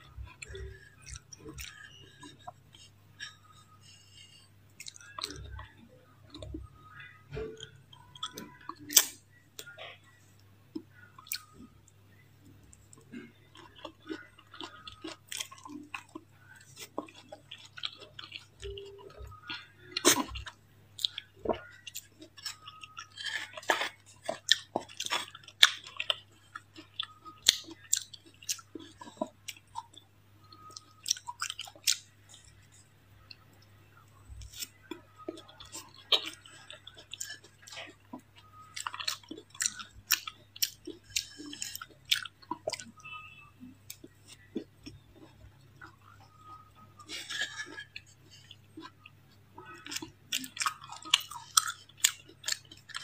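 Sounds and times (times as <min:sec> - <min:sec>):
chewing crunchy ice: 0:00.0 - 0:53.0.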